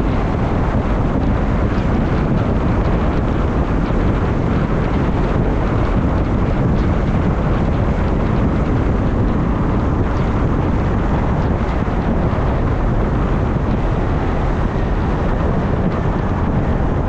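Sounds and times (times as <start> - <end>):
road traffic noise: 0.0 - 17.0
wind buffeting microphone: 0.0 - 17.0.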